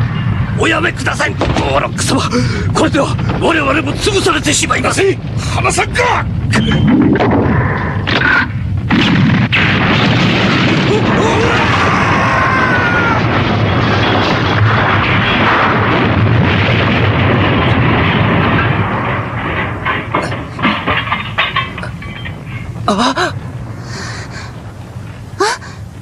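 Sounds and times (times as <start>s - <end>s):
long explosion: 0.0s - 26.0s
rumbling collapse: 0.0s - 26.0s.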